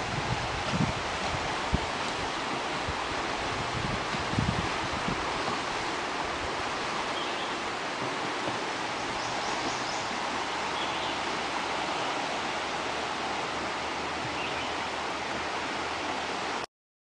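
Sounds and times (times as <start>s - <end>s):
water rushing over riffle: 0.0s - 16.7s.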